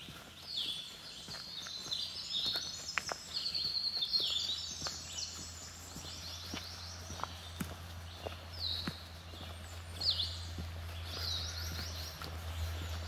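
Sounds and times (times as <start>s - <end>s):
footsteps on dirt trail: 0.0s - 13.0s
songbirds chirping: 0.0s - 13.0s.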